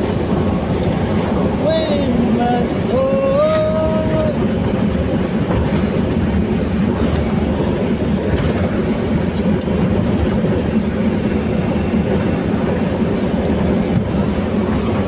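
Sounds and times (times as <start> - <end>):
vehicle rumble on road: 0.0 - 15.0.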